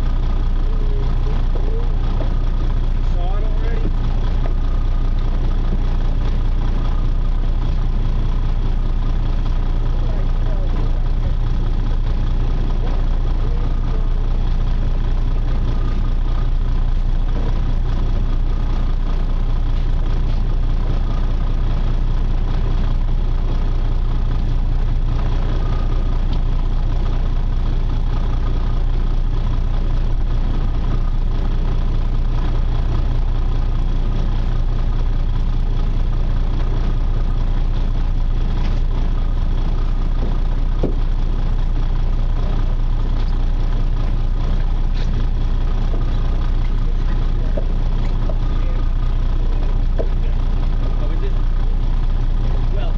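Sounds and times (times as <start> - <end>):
boat engine droning: 0.0 - 52.9
faint steady whine: 0.0 - 52.9.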